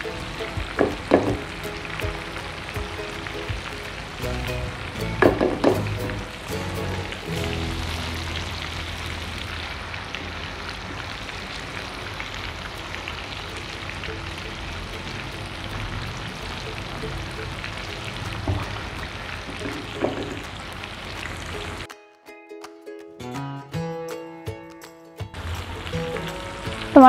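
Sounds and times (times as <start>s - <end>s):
food sizzling in oil: 0.0s - 21.9s.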